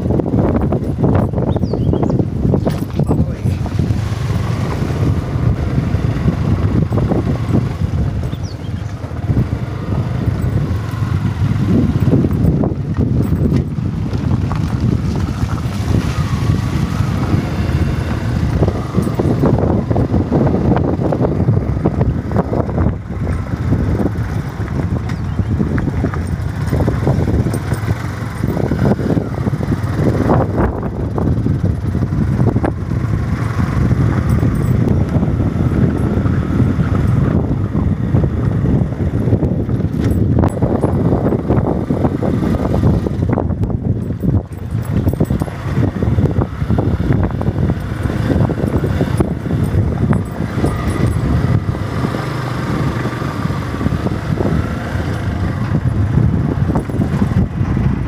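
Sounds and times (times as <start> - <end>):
vehicle rumble on rough road: 0.0 - 58.0
wind noise on microphone: 0.0 - 58.0
knocks and rattles: 2.5 - 5.5, 6.2 - 21.2, 21.8 - 37.4, 39.6 - 53.2, 53.9 - 58.0.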